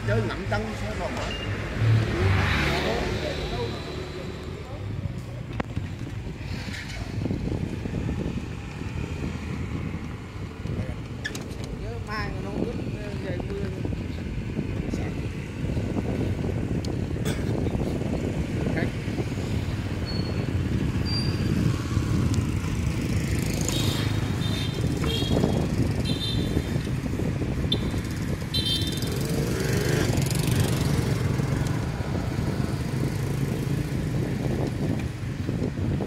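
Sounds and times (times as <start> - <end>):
street traffic rumble: 0.0 - 36.0
wind: 0.0 - 36.0.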